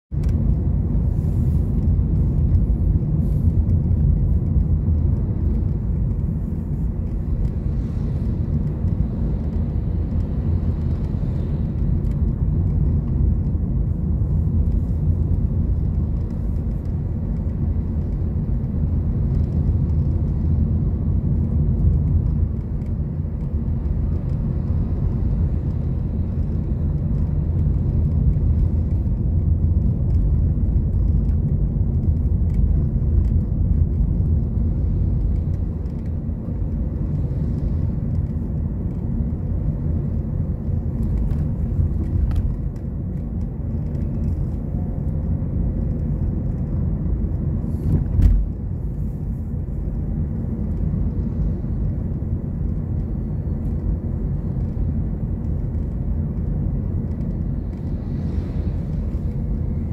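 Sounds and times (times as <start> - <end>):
traffic rumble and road noise: 0.0 - 59.9.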